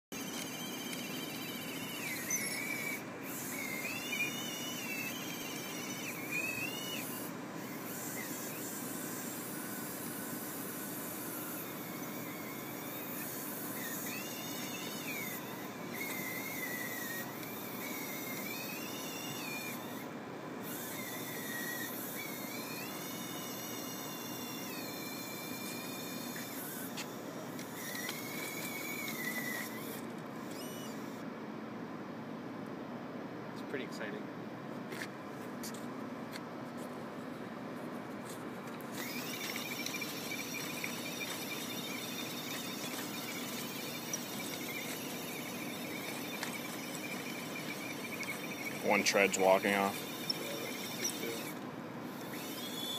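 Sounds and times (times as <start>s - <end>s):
electric motors whining: 0.0s - 31.4s, 38.3s - 52.9s.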